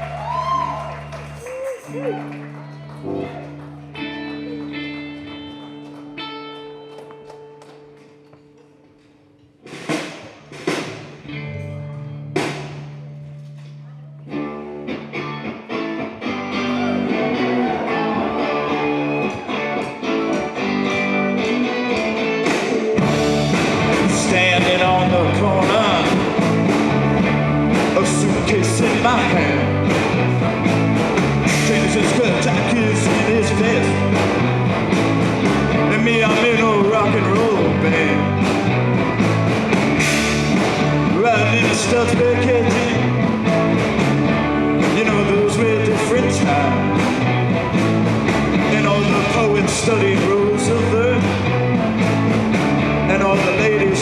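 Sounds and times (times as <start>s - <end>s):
electric guitars: 0.0s - 54.0s
live rock band playing: 0.0s - 54.0s.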